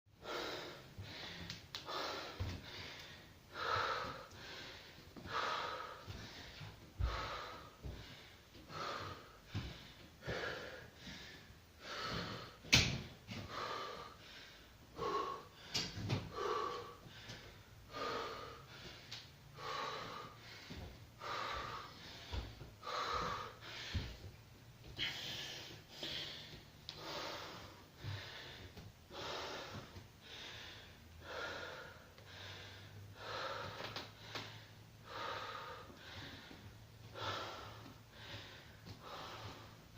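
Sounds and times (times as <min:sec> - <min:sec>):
person breathing hard: 0:00.1 - 0:39.9.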